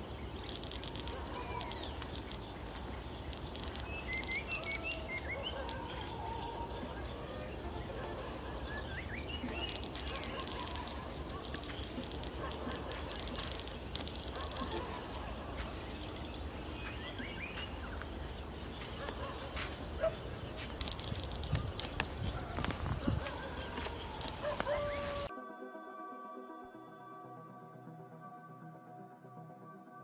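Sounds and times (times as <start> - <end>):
birds chirping and calling: 0.0 - 25.3
high insect drone: 0.0 - 25.3.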